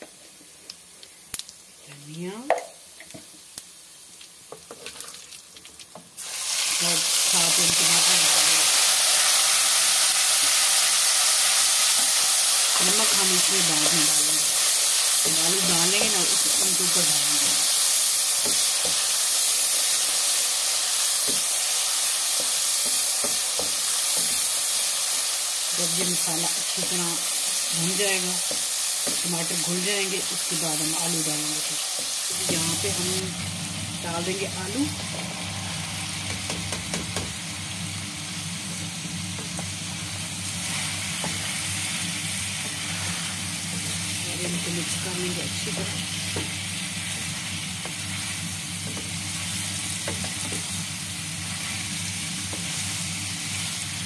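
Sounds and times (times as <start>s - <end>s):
masala sizzling in hot oil: 0.0s - 54.0s.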